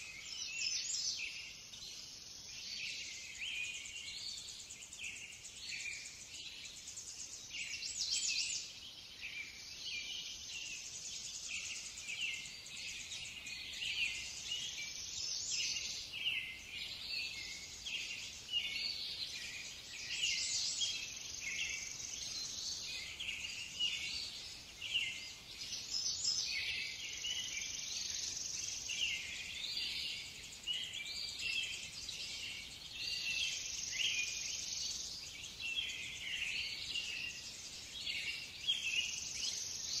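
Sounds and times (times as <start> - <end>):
birds chirping and singing: 0.0 - 40.0.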